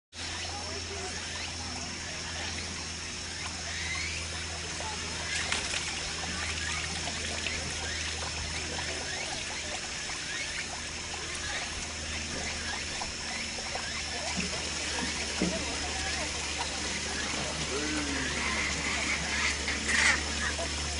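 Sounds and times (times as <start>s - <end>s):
steady low hum: 0.2s - 20.9s
water trickling and splattering: 0.2s - 20.9s.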